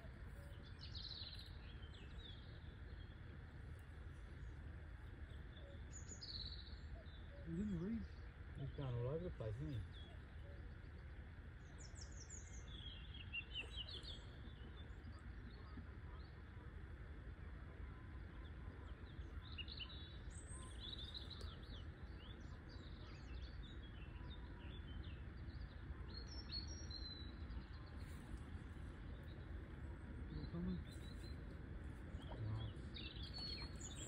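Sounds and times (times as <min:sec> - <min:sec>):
low background rumble: 0:00.0 - 0:34.0
songbirds chirping: 0:00.0 - 0:34.0.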